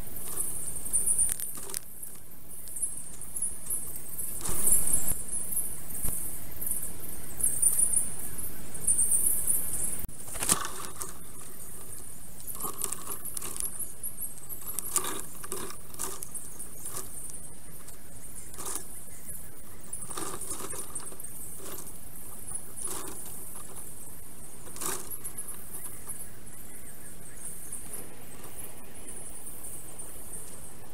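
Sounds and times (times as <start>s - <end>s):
twigs rustling and knocking: 0.0s - 6.3s, 10.1s - 30.9s.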